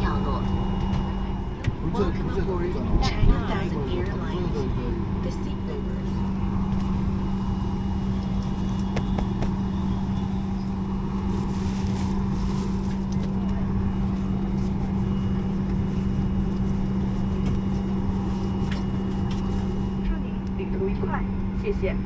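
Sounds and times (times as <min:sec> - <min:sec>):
airplane cabin hum and rush: 0:00.0 - 0:22.0.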